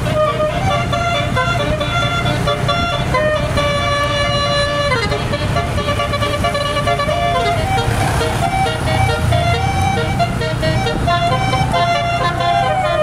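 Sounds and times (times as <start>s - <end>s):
bus engine low rumble: 0.0s - 13.0s
bus horn playing a melody: 0.0s - 13.0s.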